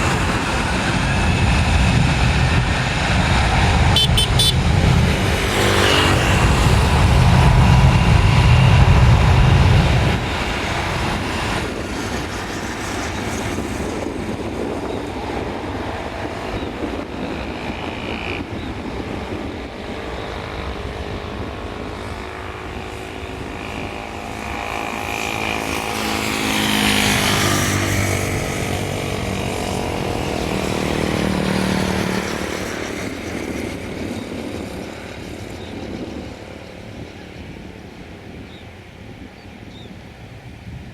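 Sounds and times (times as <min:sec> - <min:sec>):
aircraft engines passing: 0:00.0 - 0:40.9.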